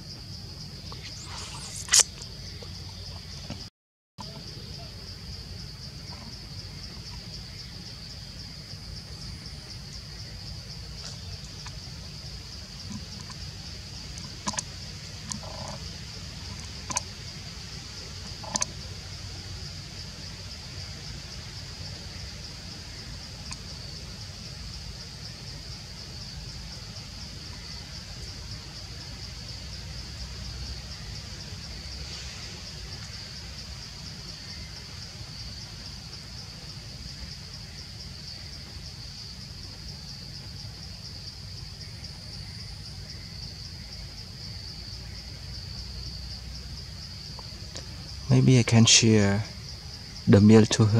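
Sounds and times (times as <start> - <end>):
insects chirring: 0.0 - 50.9.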